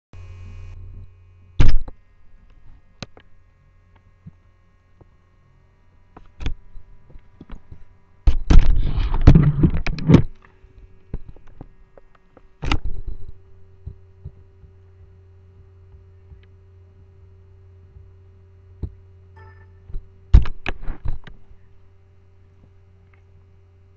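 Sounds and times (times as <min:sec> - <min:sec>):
low electrical hum: 0:00.2 - 0:23.9.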